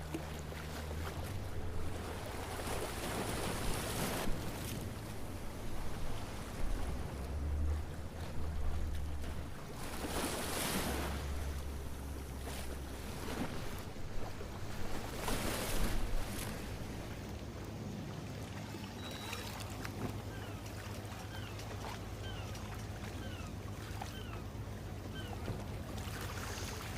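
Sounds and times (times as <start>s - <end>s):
water sloshing: 0.0s - 17.6s, 18.3s - 26.9s
boat engine rumbling: 0.0s - 26.9s.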